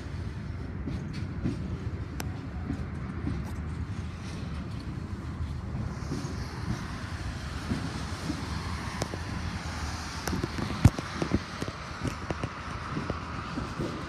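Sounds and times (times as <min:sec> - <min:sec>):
freight train rumbling: 0:00.0 - 0:14.0
train cars knocking: 0:00.0 - 0:14.0
wind on microphone: 0:00.0 - 0:14.0.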